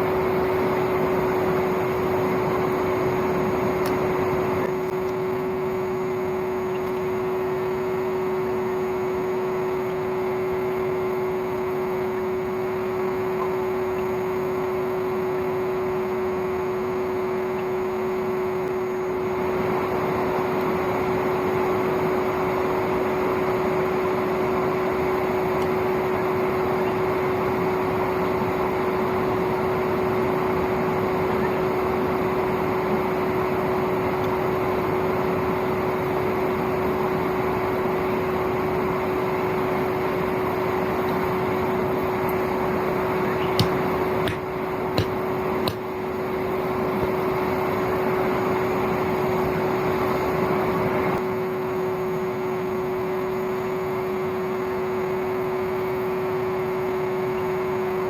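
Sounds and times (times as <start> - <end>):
vacuum cleaner motor whine: 0.0 - 58.0.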